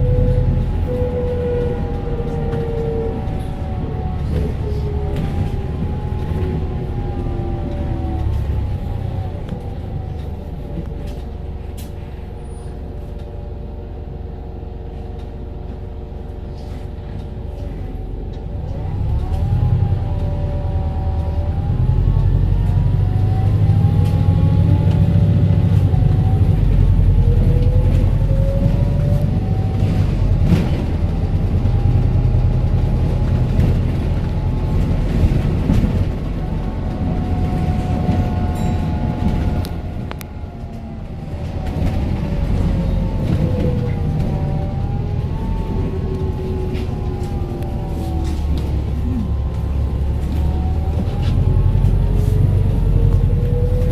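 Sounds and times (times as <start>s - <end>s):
bus engine drone: 0.0s - 53.9s.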